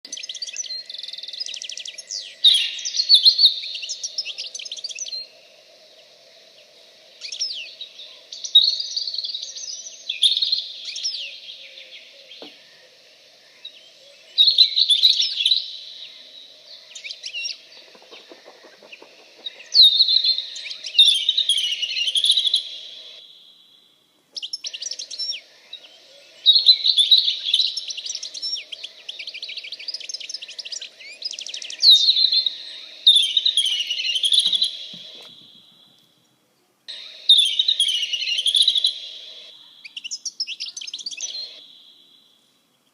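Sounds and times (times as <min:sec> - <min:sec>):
songbirds chirping and trilling: 0:00.1 - 0:42.9.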